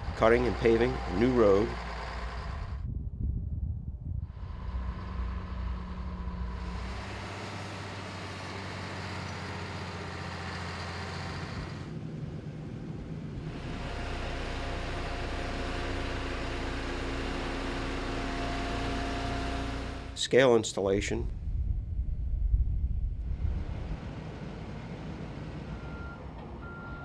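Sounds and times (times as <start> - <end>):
heavy machinery engines running: 0.0 - 2.8, 4.3 - 20.2, 23.3 - 27.0.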